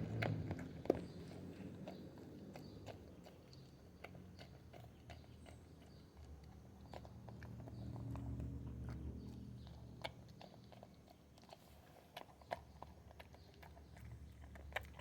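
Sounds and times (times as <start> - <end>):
dog chewing food: 0.0 - 15.0.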